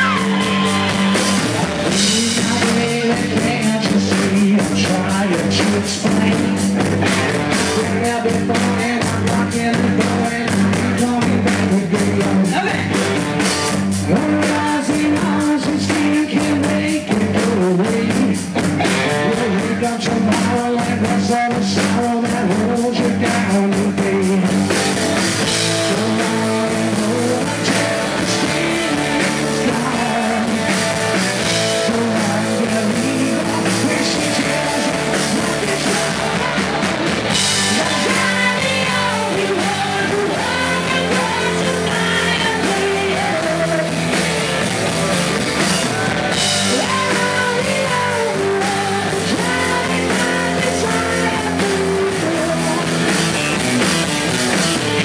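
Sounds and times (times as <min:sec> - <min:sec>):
person singing: 0:00.0 - 0:13.1, 0:13.8 - 0:24.8, 0:25.4 - 0:53.5
drum kit: 0:00.0 - 0:55.0
electric bass: 0:00.0 - 0:55.0
electric guitar: 0:00.0 - 0:55.0.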